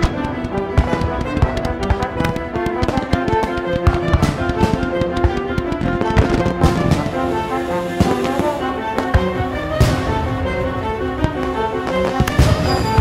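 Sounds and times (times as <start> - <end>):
background music with held notes: 0.0 - 13.0
fireworks bursting: 0.0 - 13.0.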